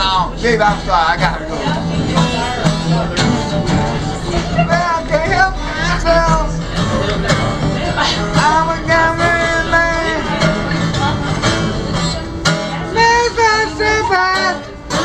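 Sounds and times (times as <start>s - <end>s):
blues guitar playing: 0.0s - 15.0s
man singing: 0.0s - 15.0s.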